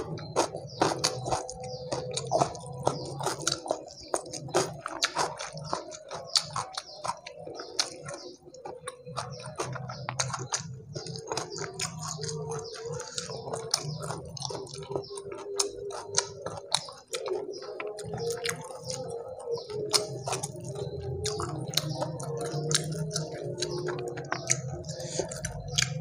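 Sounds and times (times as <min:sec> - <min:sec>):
fried chicken crackling while chewed: 0:00.0 - 0:26.0.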